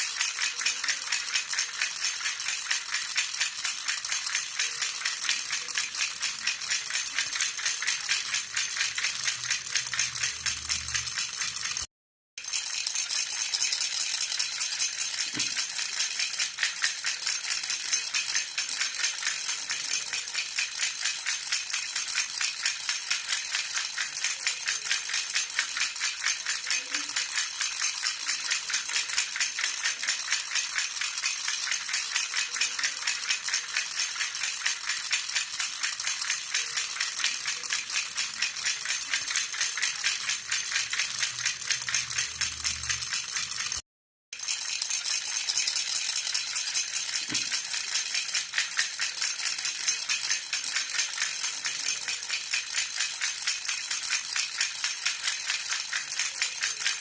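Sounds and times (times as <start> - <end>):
baby rattle shaken: 0.0 - 43.8, 44.4 - 57.0.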